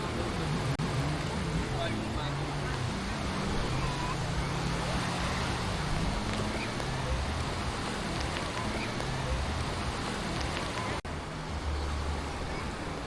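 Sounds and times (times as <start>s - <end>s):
faint voices of people: 0.0s - 11.0s
boat engine hum: 0.0s - 13.0s
sea waves washing: 0.0s - 13.0s.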